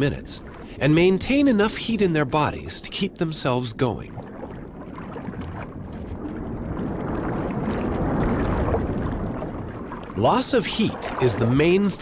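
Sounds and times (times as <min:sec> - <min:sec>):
sea water surging underwater: 0:00.0 - 0:12.0.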